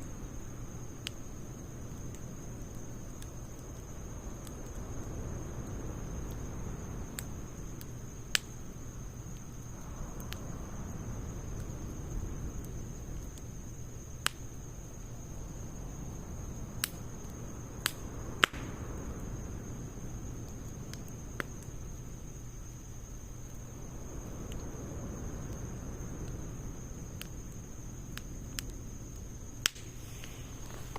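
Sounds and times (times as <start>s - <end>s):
campfire crackling and popping: 0.0s - 30.9s
high insect trill: 0.0s - 30.9s.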